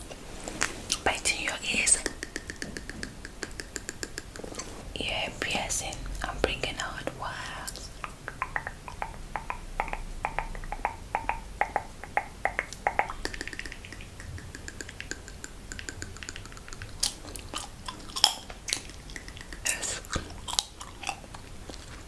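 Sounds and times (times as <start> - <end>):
wet mouth clicking and crackling: 0.6 - 22.0.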